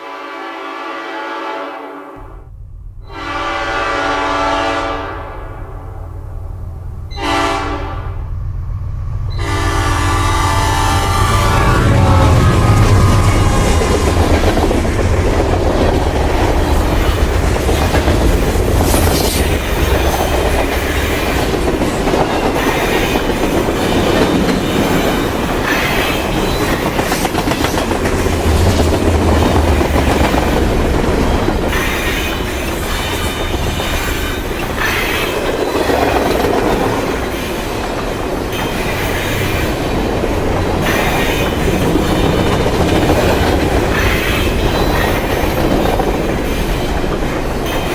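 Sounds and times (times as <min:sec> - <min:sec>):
train wheels rumbling on rails: 0:02.2 - 0:47.9.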